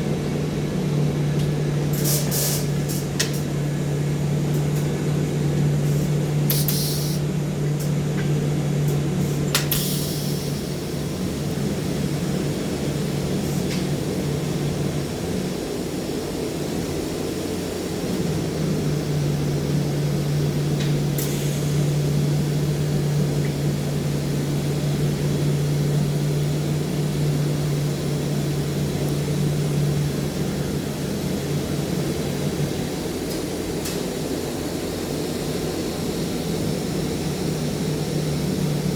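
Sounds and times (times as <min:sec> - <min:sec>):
arc welding hum and hiss: 0:00.0 - 0:38.9.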